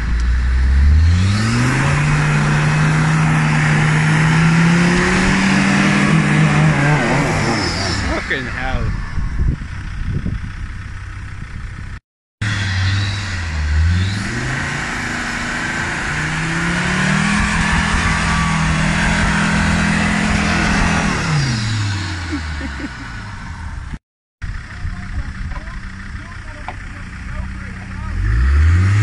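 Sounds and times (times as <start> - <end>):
truck engine revving: 0.0 - 24.0, 24.8 - 29.0.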